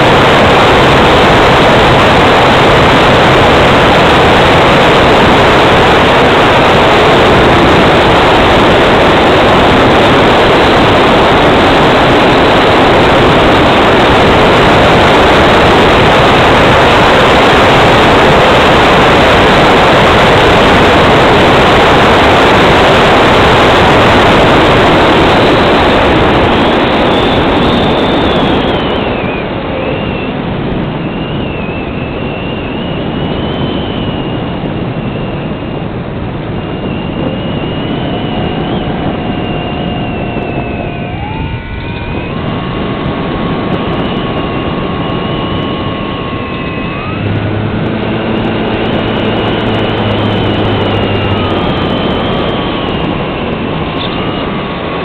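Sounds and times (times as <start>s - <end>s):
airflow rushing over microphone: 0.0s - 55.0s
electric motor whine: 0.0s - 55.0s.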